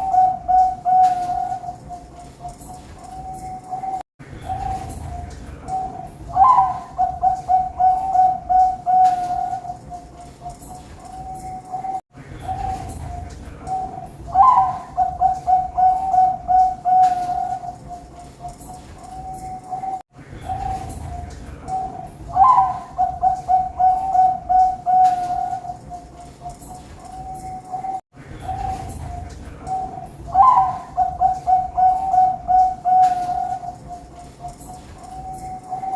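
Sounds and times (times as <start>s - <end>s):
dove cooing: 0.0s - 35.9s.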